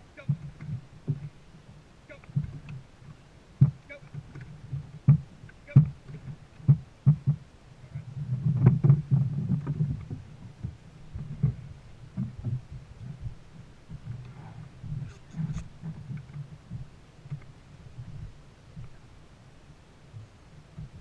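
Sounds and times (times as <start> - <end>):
low thuds and knocks: 0.2 - 19.0, 20.2 - 21.0.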